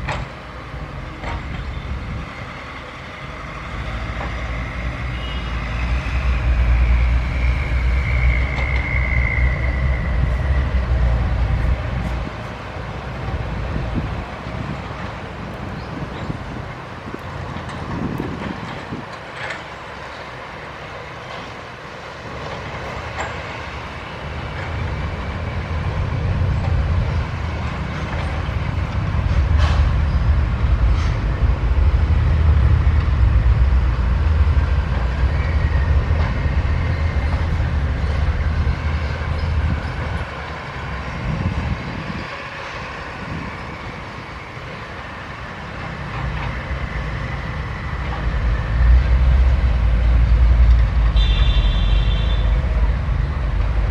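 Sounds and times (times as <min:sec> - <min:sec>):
excavator diesel engine under load: 0:00.0 - 0:53.9.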